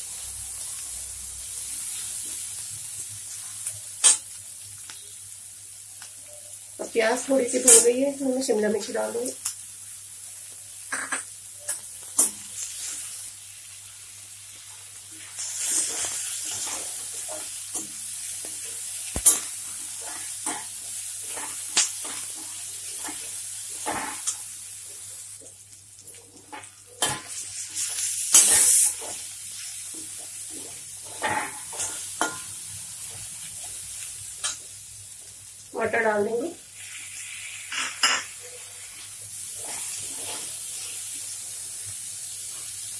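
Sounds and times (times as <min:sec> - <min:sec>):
vegetables sizzling in hot oil: 0:00.0 - 0:42.9.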